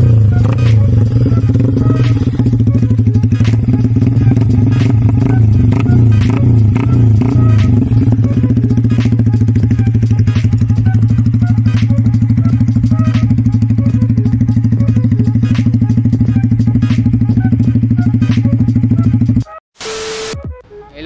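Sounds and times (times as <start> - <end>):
motorcycle engine idling: 0.0 - 19.4.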